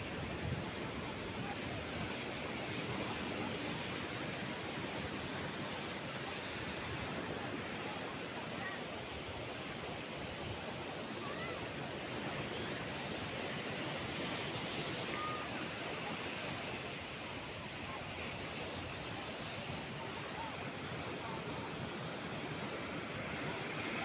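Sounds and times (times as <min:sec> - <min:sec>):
sea surf washing ashore: 0:00.0 - 0:24.0.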